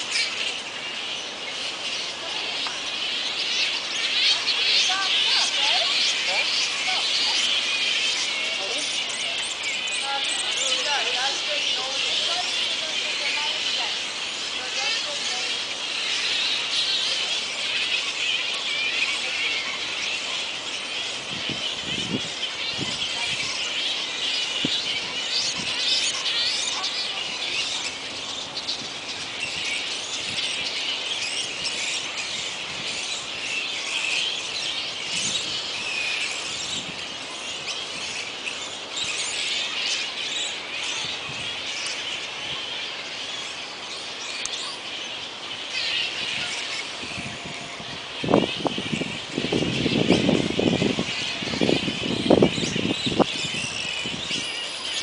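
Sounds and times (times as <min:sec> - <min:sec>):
fruit bats squealing and chattering: 0:00.0 - 0:55.0.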